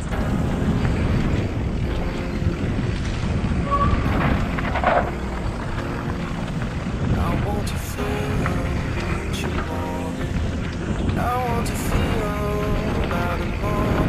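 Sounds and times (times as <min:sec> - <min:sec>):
wind and tyre rumble: 0:00.0 - 0:14.0.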